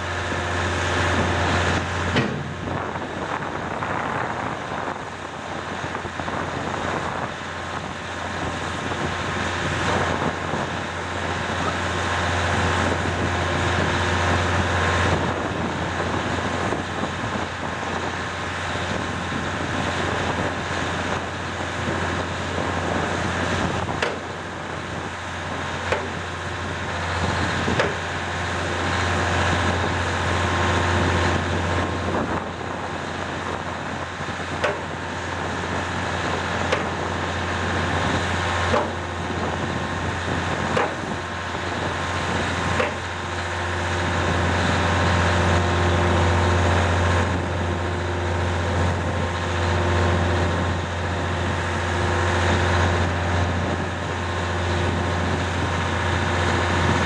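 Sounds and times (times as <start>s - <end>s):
heavy machinery droning: 0.0s - 57.0s.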